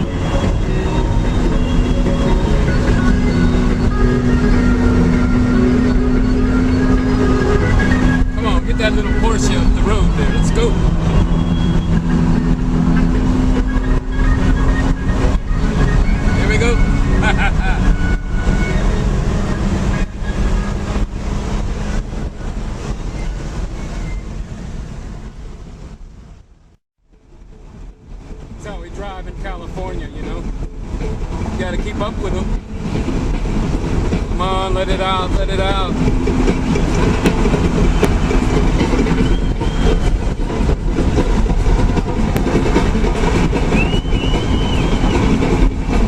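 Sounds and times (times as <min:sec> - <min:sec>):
car engine running: 0:00.0 - 0:46.0
road and wind noise: 0:00.0 - 0:46.0.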